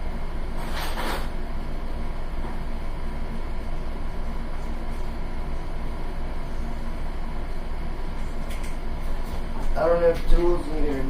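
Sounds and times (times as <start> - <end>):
mechanical hum and rumble: 0.0 - 11.0.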